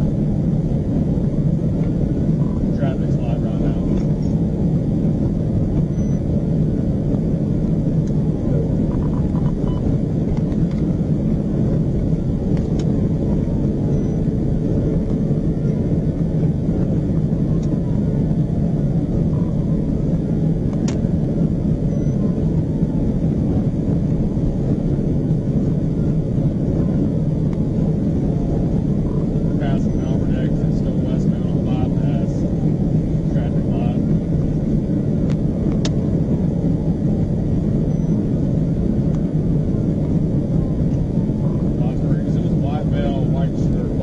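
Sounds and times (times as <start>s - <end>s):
road and wind noise inside car: 0.0s - 44.0s.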